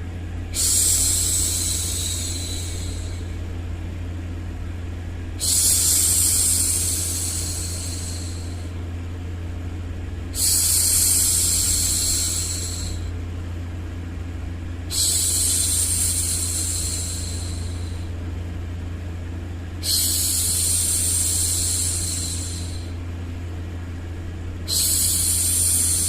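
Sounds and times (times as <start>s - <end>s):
low white-noise rumble: 0.0s - 26.0s.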